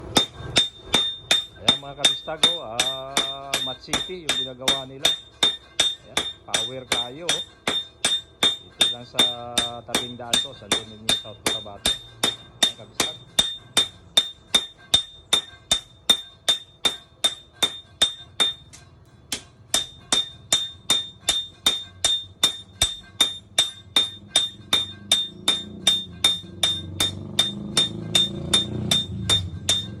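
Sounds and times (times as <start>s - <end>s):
hammer striking metal blade: 0.0s - 30.0s.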